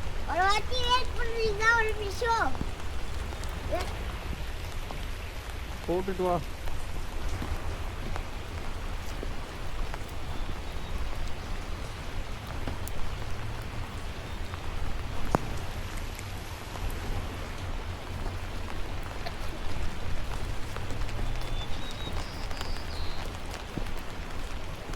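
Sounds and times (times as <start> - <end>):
light rain hissing: 0.0 - 24.9
raindrops ticking: 0.0 - 24.9.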